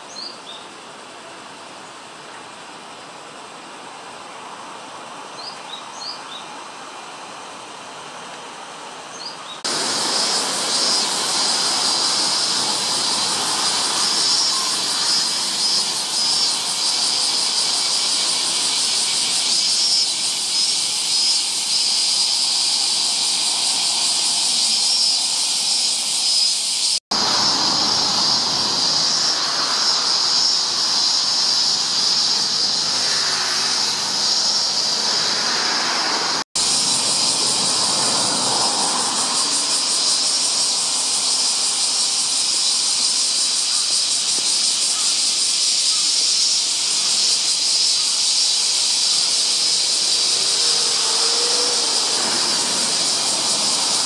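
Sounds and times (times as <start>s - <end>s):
cicadas chorus: 0.0s - 54.0s.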